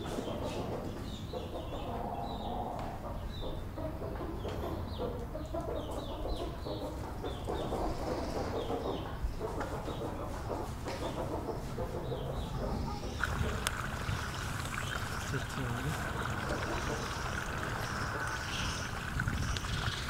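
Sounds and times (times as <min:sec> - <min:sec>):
birds chirping: 0:00.0 - 0:20.0
steady background noise: 0:00.0 - 0:20.0.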